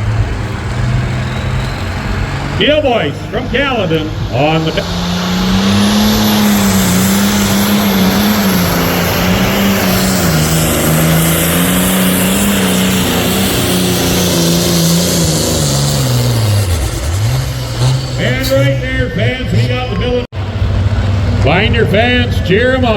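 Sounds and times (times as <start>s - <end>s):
diesel engine under load: 0.0s - 22.9s
high whine: 0.4s - 22.6s.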